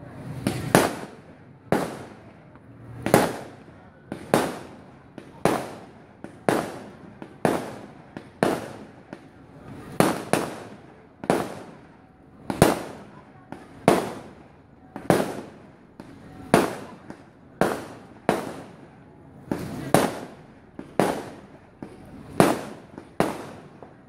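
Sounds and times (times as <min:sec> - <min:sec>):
fireworks bangs: 0:00.0 - 0:24.0
fireworks rumble: 0:00.0 - 0:24.0.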